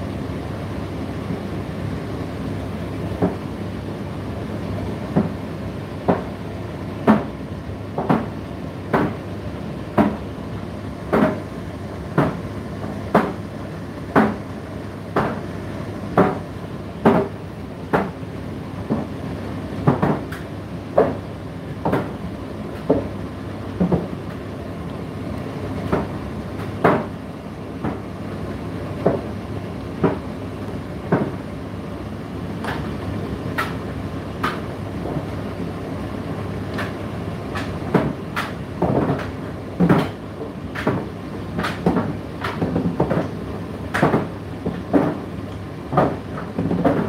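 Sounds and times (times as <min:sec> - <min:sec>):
tumble dryer motor hum: 0:00.0 - 0:47.0.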